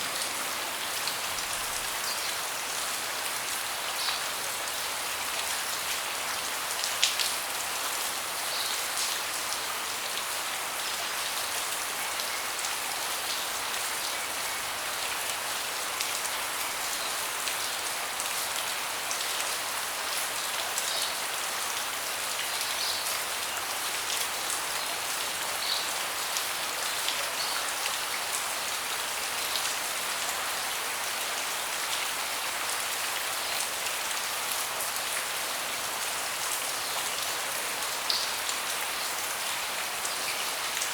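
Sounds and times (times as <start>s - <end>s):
rain falling on a deck: 0.0s - 40.9s.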